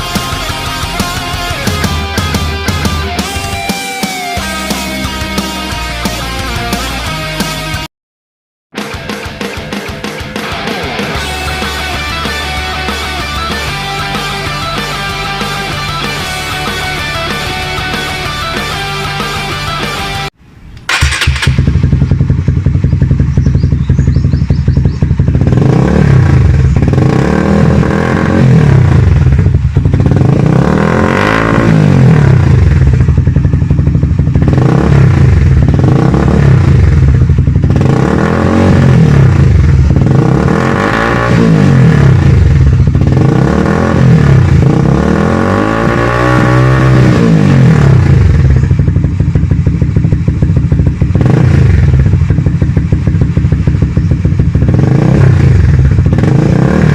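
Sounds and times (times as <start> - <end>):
motorcycle revving: 0.0 - 7.9, 9.0 - 56.9.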